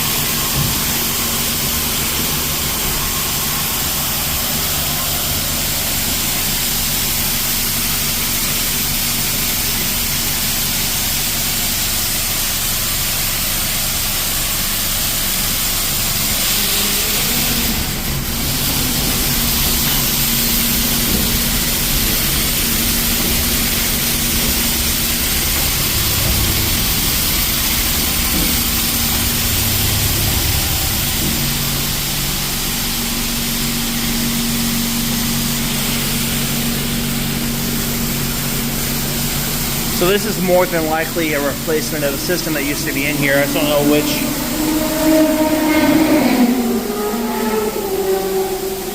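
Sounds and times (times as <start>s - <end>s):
high-pressure water spraying: 0.0s - 48.9s
pumps and motors humming: 0.0s - 48.9s.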